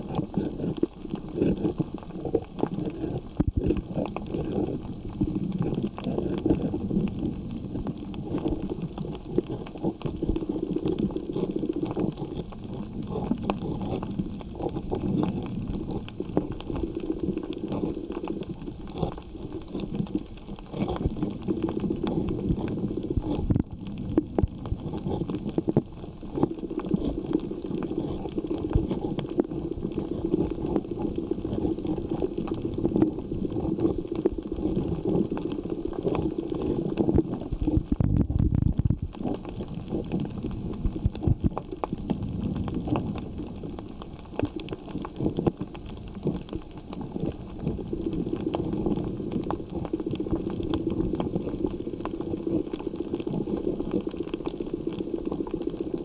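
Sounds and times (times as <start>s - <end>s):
muffled rumble of moving water: 0.0s - 56.0s
small underwater clicks and crackles: 0.0s - 56.0s.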